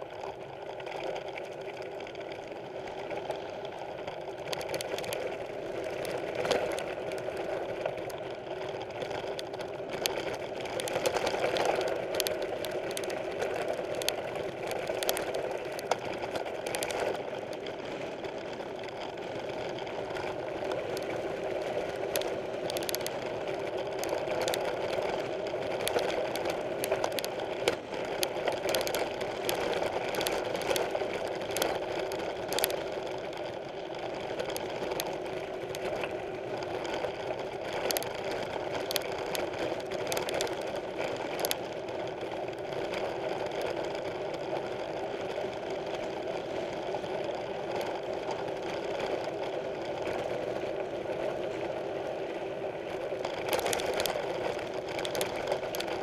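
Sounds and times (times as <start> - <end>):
mountain bike rolling over trail: 0.0 - 56.0
sharp clicks and rattles: 3.9 - 51.3, 52.9 - 56.0.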